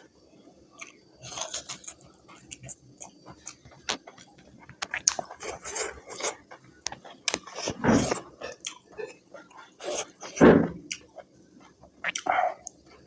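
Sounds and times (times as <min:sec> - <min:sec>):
person chewing: 0:00.8 - 0:13.0.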